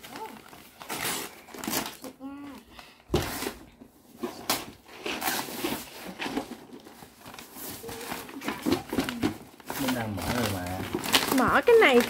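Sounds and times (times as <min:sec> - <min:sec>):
wrapping paper rustling and tearing: 0:00.0 - 0:12.0.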